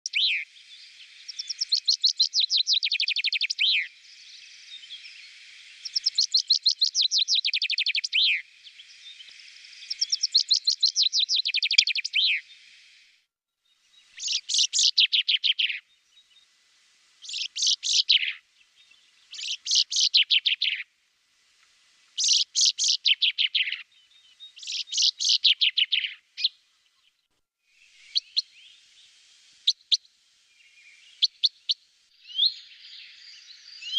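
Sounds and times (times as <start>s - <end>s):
chaffinch singing trills: 0.1s - 12.6s, 13.7s - 16.5s, 17.2s - 20.9s, 22.2s - 27.1s, 27.8s - 29.1s, 29.7s - 33.9s.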